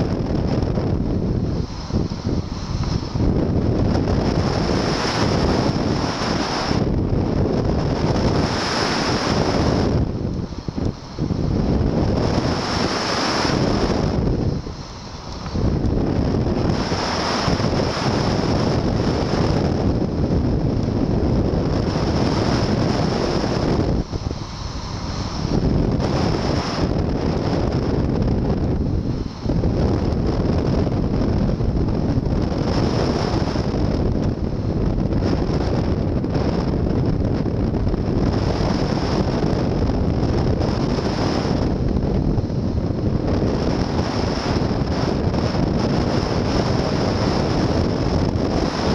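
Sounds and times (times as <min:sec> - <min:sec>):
wind rush on microphone: 0:00.0 - 0:48.9.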